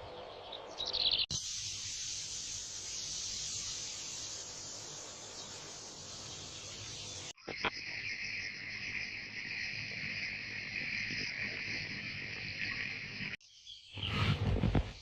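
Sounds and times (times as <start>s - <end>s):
insect chirring: 1.3s - 13.4s
plain hiss: 1.3s - 13.4s.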